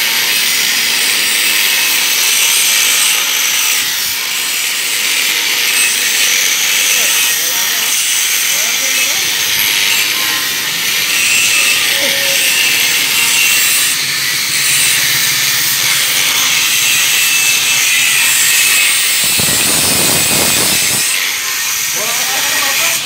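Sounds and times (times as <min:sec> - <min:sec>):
angle grinder grinding steel: 0:00.0 - 0:23.0.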